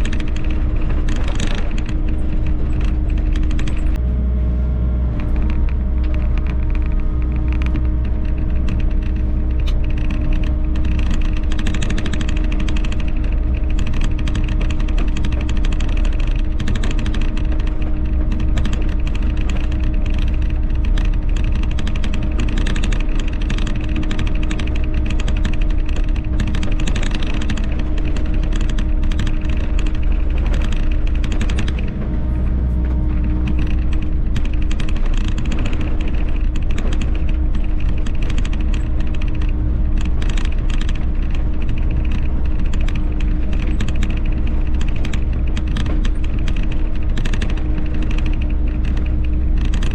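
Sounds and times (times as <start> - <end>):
clatter of machinery and stone: 0.0 - 4.0, 5.2 - 49.9
excavator engine drone: 0.0 - 49.9.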